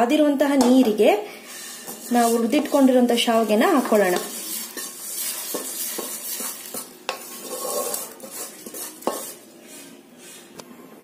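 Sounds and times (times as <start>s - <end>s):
spatula scraping a pan: 1.3s - 10.6s
boiling water hissing: 1.4s - 10.6s.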